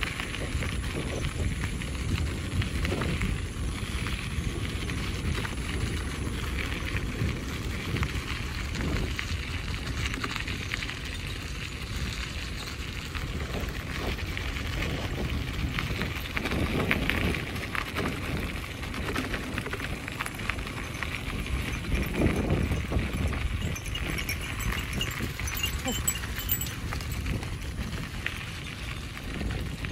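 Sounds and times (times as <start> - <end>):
wind rumbling on microphone: 0.0 - 29.9.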